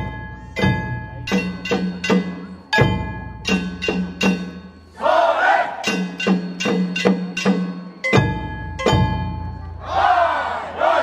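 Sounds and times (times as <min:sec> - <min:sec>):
drum strikes: 0:00.0 - 0:04.8, 0:05.8 - 0:10.0.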